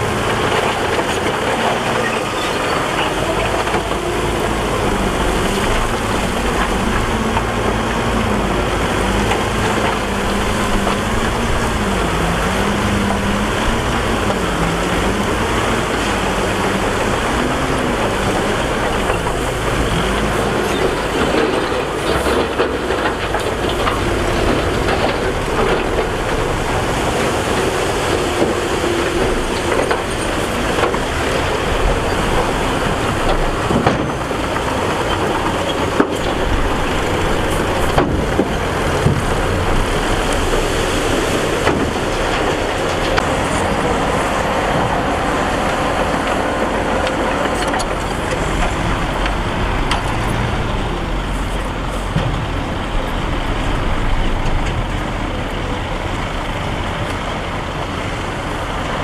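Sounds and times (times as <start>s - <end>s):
bulldozer diesel engine running: 0.0s - 59.0s
metallic clanks of steel tracks: 0.0s - 59.0s.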